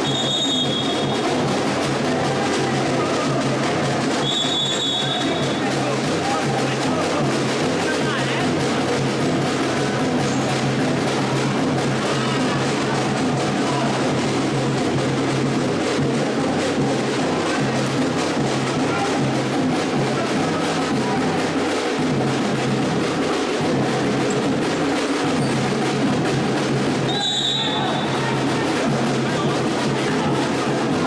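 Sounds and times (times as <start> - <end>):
drum kit: 0.0 - 31.0.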